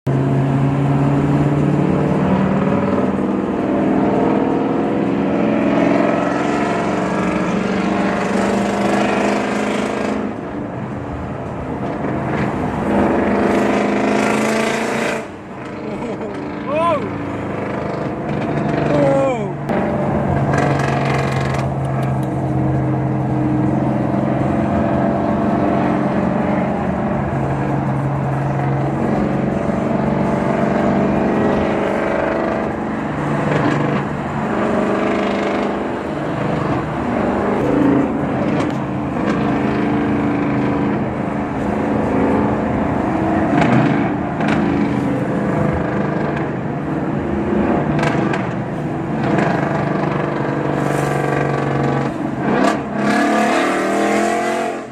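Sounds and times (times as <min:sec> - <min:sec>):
car engine revving: 0:00.1 - 0:54.9.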